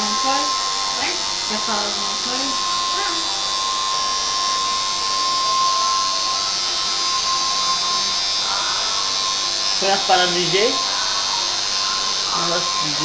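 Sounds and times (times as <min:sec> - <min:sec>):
tattoo machine buzzing: 0:00.0 - 0:13.0.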